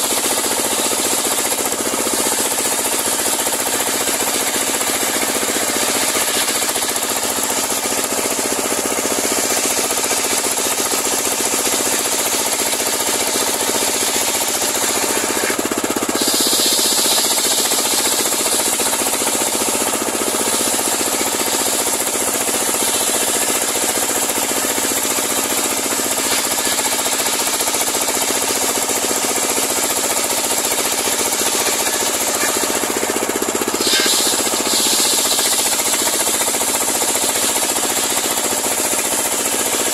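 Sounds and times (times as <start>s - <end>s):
sawmill blade sawing log: 0.0s - 39.9s.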